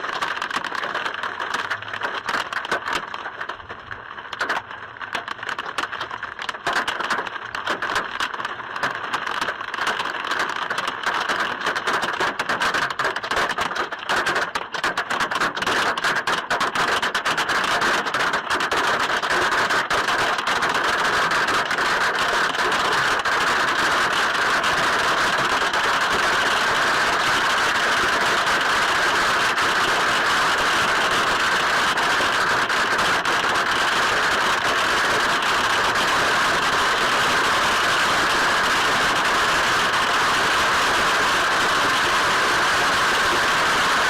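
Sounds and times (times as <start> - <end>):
hail pelting down: 4.4 - 44.0.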